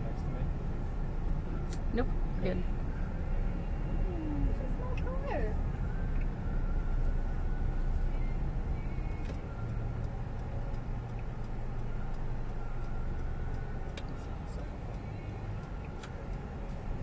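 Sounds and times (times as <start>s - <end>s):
car interior engine rumble: 0.0s - 17.0s.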